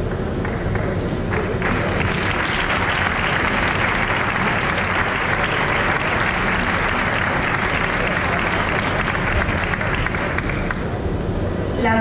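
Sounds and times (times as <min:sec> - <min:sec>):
audience applauding: 0:00.4 - 0:11.0.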